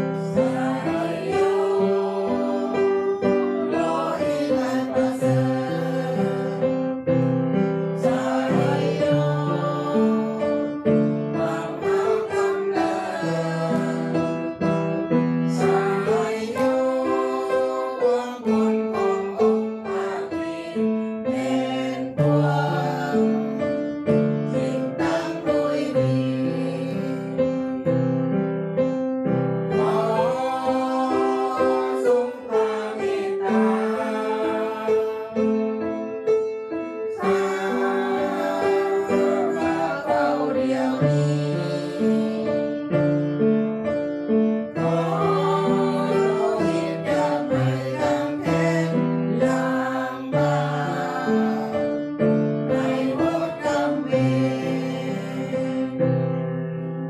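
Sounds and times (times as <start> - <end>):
women singing a hymn: 0.0 - 7.3, 7.9 - 14.8, 15.4 - 27.9, 29.7 - 35.5, 37.1 - 42.9, 44.7 - 56.0.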